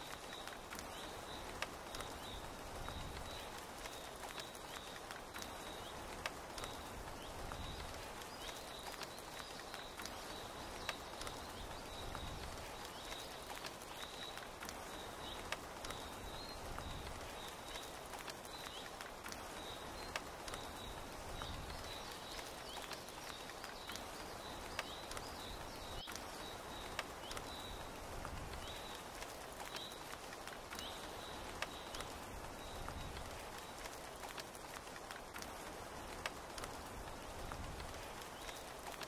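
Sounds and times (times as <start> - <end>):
rain pattering on tent: 0.0 - 39.0.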